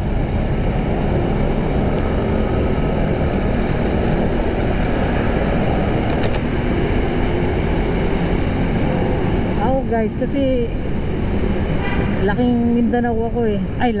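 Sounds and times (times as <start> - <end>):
scooter engine humming: 0.0 - 14.0
wind rushing over microphone: 0.0 - 14.0.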